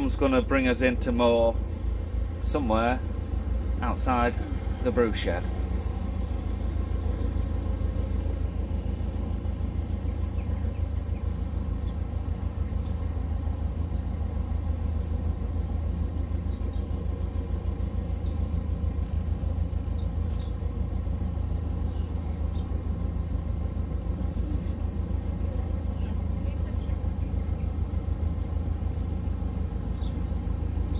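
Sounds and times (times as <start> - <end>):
diesel engine chugging: 0.0 - 30.9.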